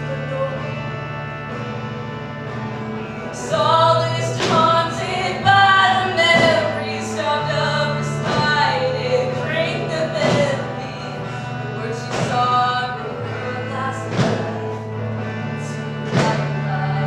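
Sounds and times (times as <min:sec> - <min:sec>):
sustained low accompaniment: 0:00.0 - 0:17.0
voices singing in harmony: 0:00.0 - 0:17.0.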